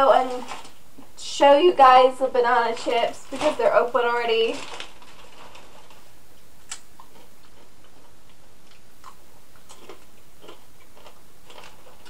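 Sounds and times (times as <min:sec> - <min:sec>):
crisp chips crackling: 0:00.0 - 0:00.8, 0:02.6 - 0:12.0.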